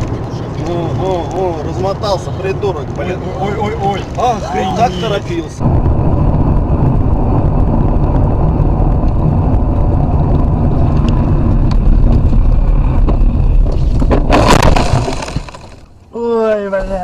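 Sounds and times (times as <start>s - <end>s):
vehicle engine and tyre rumble: 0.0s - 16.2s.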